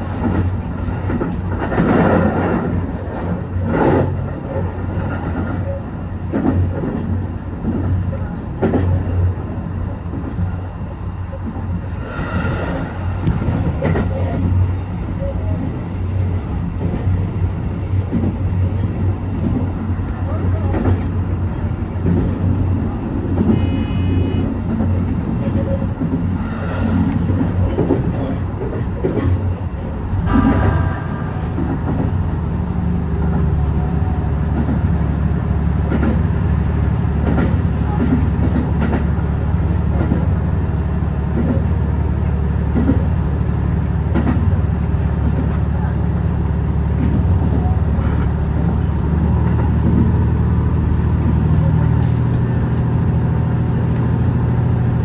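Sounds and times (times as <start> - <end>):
train running with low hum: 0.0 - 55.0
wheels rumbling on rails: 0.0 - 55.0.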